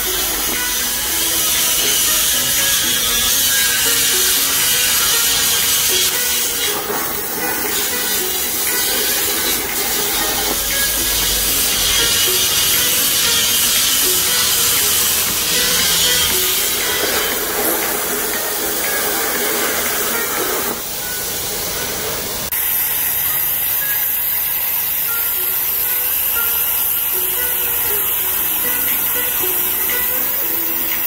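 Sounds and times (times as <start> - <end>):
plasma torch hissing: 0.0 - 31.0.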